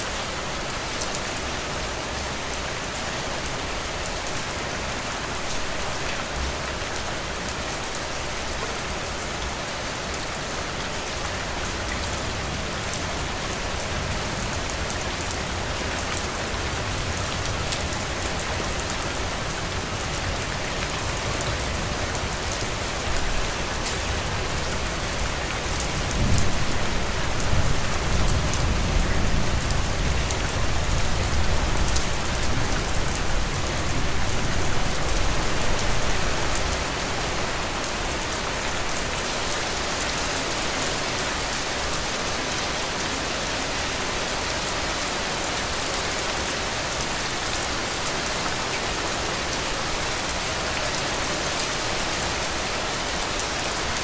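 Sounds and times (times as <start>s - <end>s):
heavy rain on a roof: 0.0s - 54.0s.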